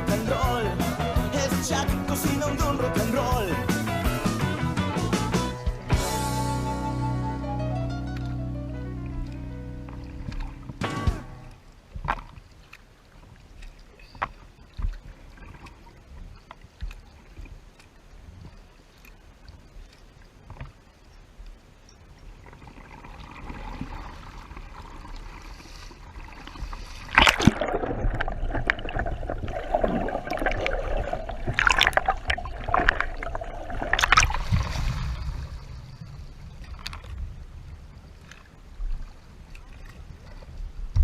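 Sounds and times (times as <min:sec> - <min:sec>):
water splashing around kayak: 0:00.0 - 0:06.6, 0:08.0 - 0:41.0
water lapping: 0:08.0 - 0:41.0.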